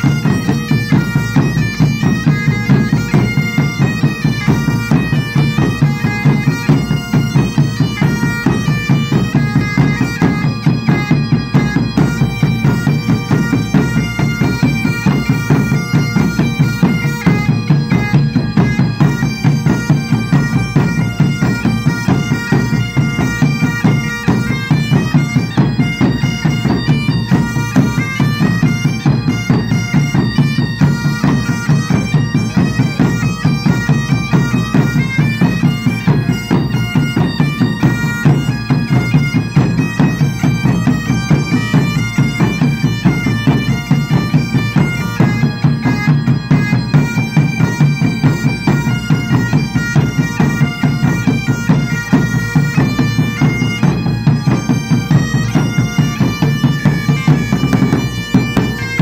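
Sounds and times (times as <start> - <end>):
bagpipes playing with drones: 0.0 - 59.0
smaller drum: 0.0 - 59.0.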